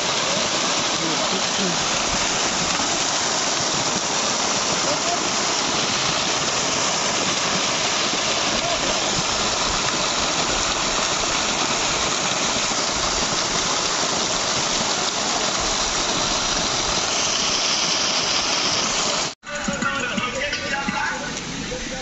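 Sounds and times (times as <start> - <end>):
pond fountain splashing: 0.0 - 22.0.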